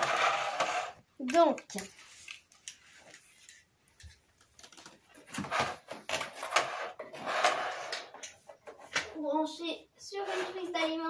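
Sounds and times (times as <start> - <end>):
rustling and scraping handling noise: 0.0 - 9.2, 10.1 - 11.0.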